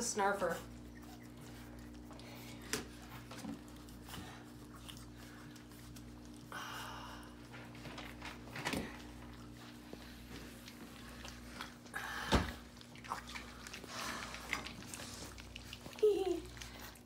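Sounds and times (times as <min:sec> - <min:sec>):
puppies lapping and snuffling: 0:00.0 - 0:17.0
steady low hum: 0:00.0 - 0:17.0.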